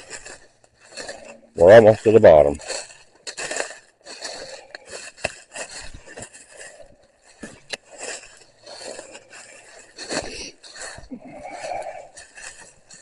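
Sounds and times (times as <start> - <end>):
footsteps on rough ground: 0.0 - 13.0.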